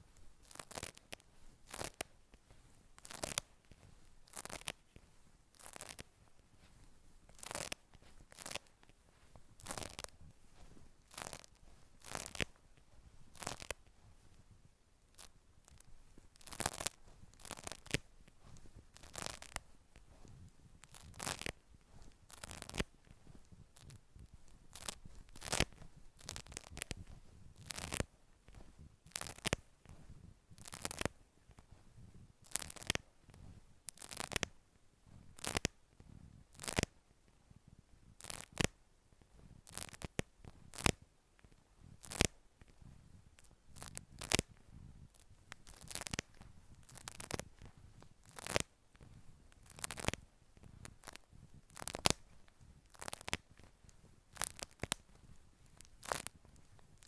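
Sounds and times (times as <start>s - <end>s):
scratchy asmr strokes: 0.0s - 57.0s.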